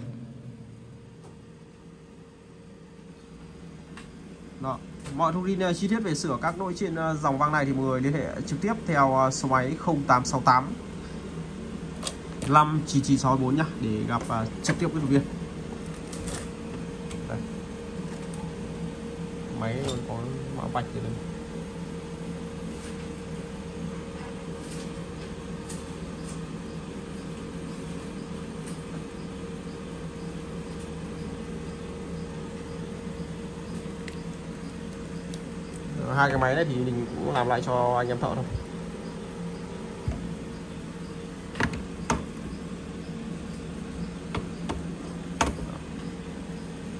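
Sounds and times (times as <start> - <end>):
steady background hum: 0.0 - 46.9.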